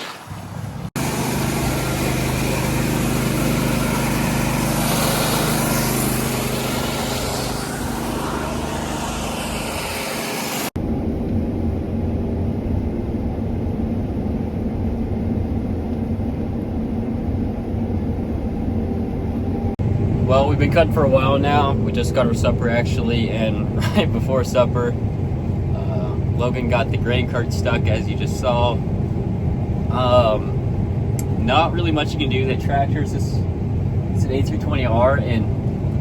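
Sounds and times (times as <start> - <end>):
diesel machinery running: 0.4 - 36.0.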